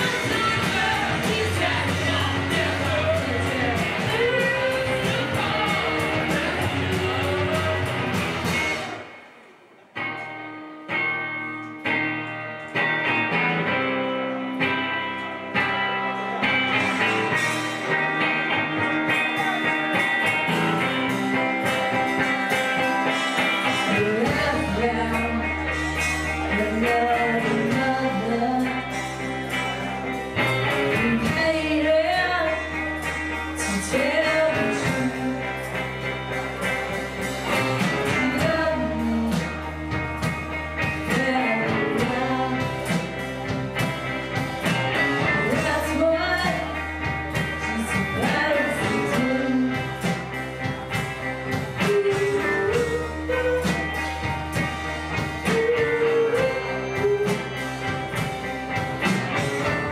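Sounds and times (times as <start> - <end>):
person singing: 0.0 - 9.1, 14.6 - 50.8, 51.5 - 58.2
rock band playing: 0.0 - 59.9.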